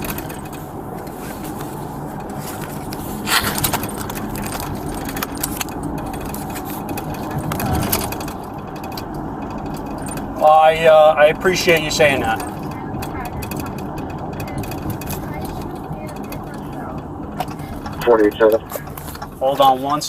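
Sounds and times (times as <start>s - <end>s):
car engine and road rumble: 0.0s - 20.0s
jingling and rattling clicks: 0.0s - 20.0s.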